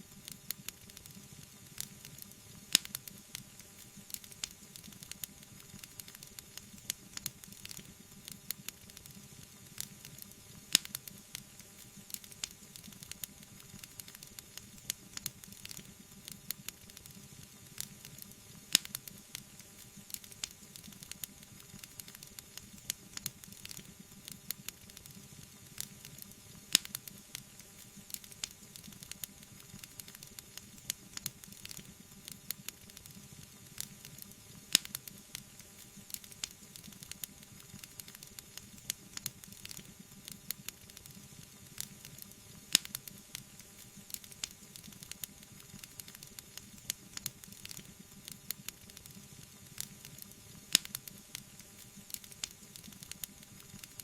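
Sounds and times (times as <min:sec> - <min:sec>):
wood fire crackling: 0:00.0 - 0:54.0
fire popping: 0:00.2 - 0:09.2, 0:09.8 - 0:25.2, 0:25.8 - 0:54.0.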